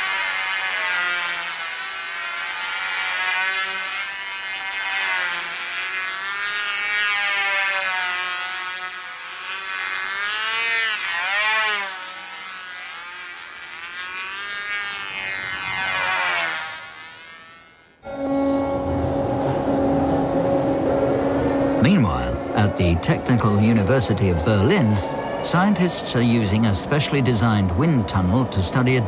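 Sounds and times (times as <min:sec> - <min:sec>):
model plane propeller whining: 0:00.0 - 0:29.0.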